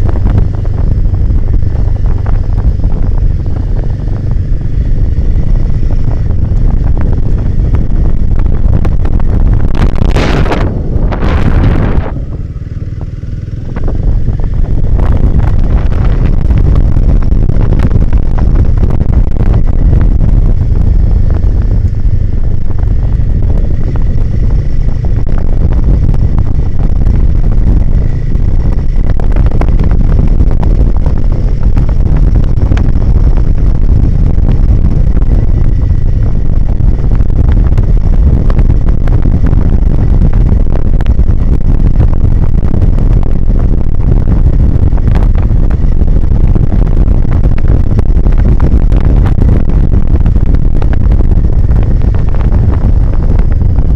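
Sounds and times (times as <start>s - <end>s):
motorcycle engine rumbling: 0.0s - 53.9s
wind buffeting microphone: 0.0s - 53.9s.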